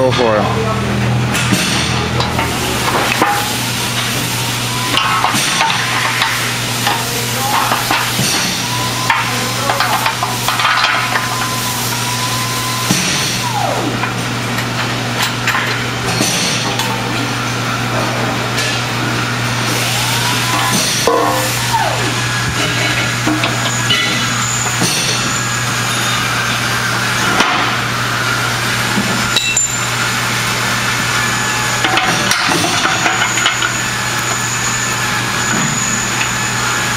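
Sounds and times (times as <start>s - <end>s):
low workshop hum: 0.0s - 36.9s.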